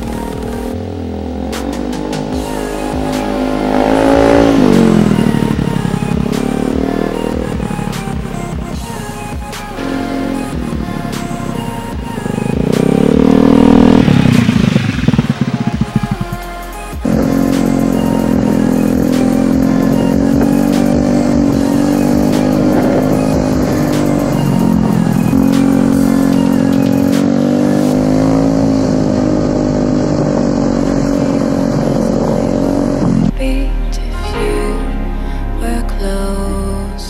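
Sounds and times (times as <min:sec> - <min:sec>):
scooter engine revving: 0:00.0 - 0:33.3.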